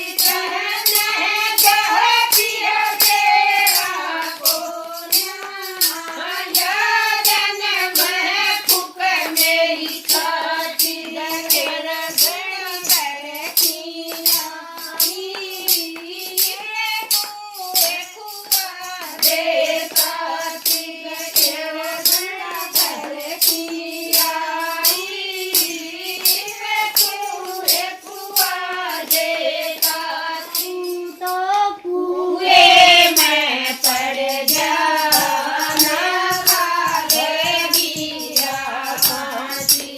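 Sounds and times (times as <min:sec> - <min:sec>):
jingling percussion beat: 0:00.0 - 0:31.6, 0:32.4 - 0:39.9
person singing folk devotional song: 0:00.0 - 0:39.9.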